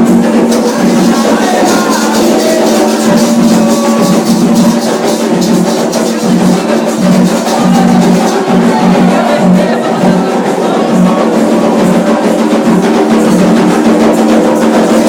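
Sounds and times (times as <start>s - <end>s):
drum-led percussion music: 0.0s - 15.0s.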